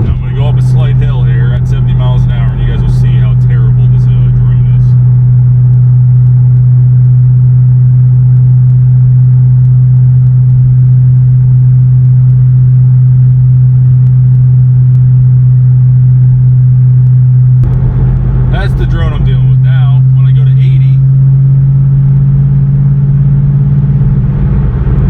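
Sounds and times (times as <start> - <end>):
exhaust drone inside car cabin: 0.0 - 25.0.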